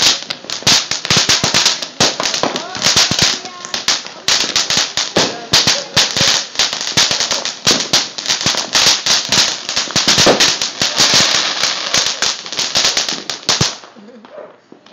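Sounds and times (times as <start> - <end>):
firecrackers popping: 0.0 - 14.9.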